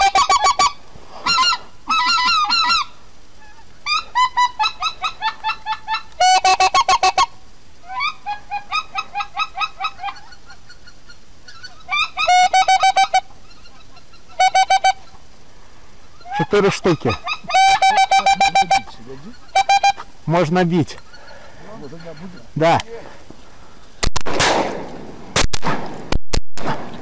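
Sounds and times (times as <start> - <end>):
geese honking: 0.0 - 15.3, 16.0 - 23.9.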